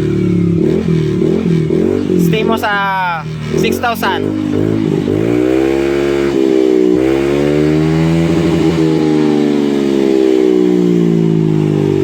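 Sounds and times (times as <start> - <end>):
scooter engine revving high: 0.0 - 12.0.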